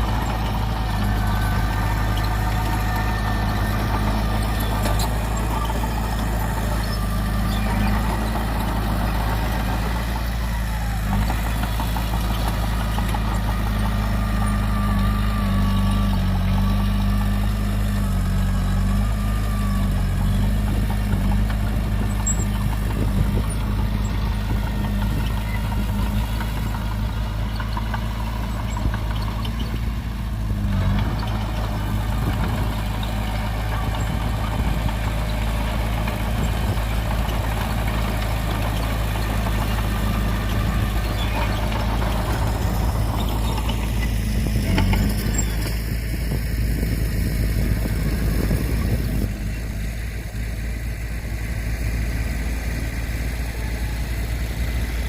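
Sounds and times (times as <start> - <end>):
heavy machinery diesel engine: 0.0 - 55.0.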